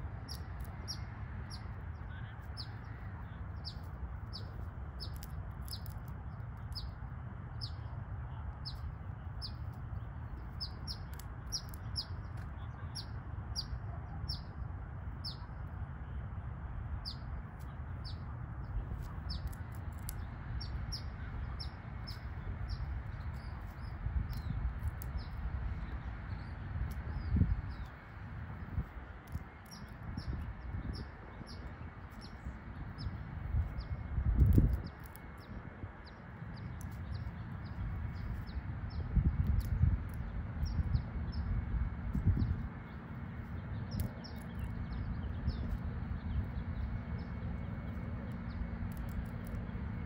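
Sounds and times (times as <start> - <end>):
low steady rumble: 0.0 - 50.0
bird chirping: 0.2 - 7.9, 8.6 - 14.5, 17.0 - 50.0.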